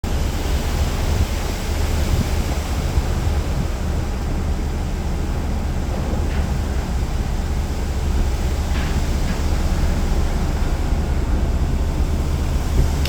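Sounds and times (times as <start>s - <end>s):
sea rushing: 0.0s - 13.0s
wind buffeting the microphone: 0.0s - 13.0s.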